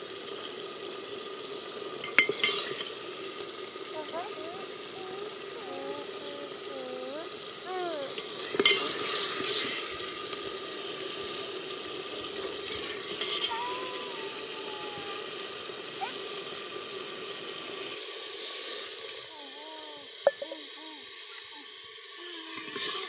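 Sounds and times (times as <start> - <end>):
steady hiss and hum: 0.0 - 23.0.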